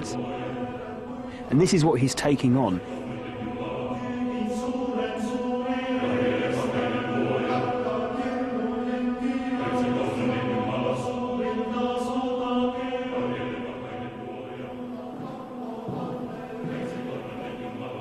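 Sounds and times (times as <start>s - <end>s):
choir chanting: 0.0s - 18.0s.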